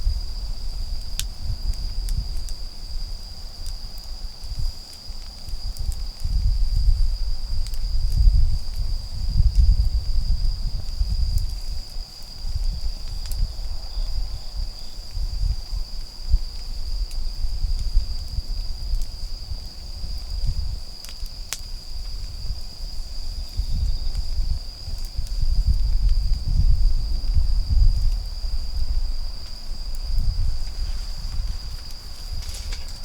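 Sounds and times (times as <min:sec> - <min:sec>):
insects trilling: 0:00.0 - 0:33.0
wood fire crackling: 0:00.0 - 0:33.0.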